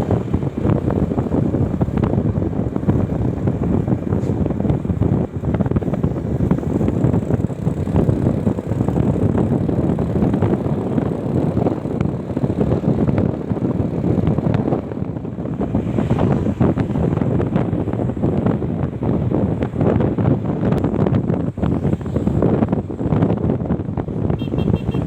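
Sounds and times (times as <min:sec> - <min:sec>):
moving bus rumble: 0:00.0 - 0:25.0
wind buffeting microphone: 0:00.0 - 0:25.0.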